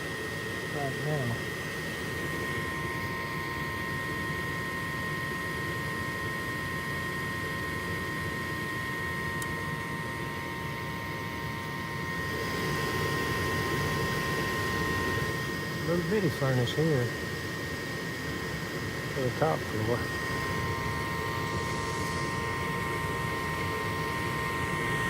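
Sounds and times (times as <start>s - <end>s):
gas furnace whirring: 0.0s - 25.0s
high-pitched whine: 0.0s - 25.0s.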